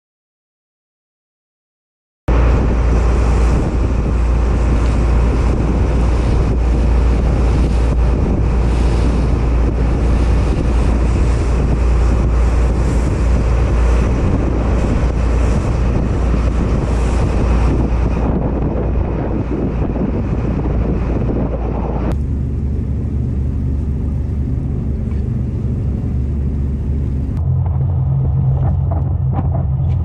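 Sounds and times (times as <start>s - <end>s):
boat engine: 2.3s - 30.0s
bow wake rushing: 2.3s - 30.0s
wind buffeting microphone: 2.3s - 30.0s.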